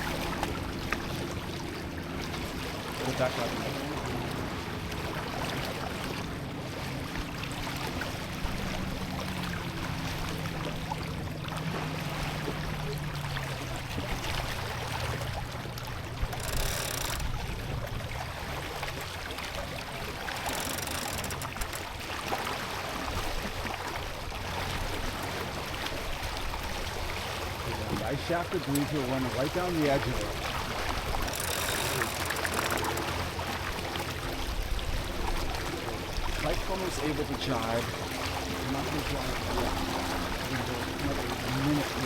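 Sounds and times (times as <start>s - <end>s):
water rushing along boat hull: 0.0s - 42.0s.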